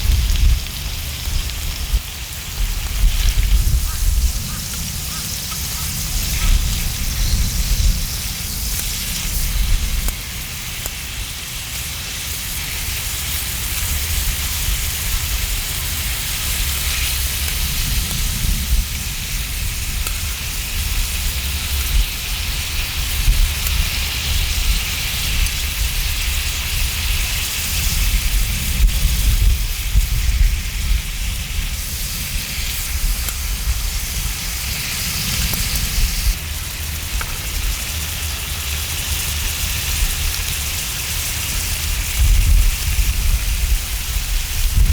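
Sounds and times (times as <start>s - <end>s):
meat sizzling on griddle: 0.0s - 44.9s.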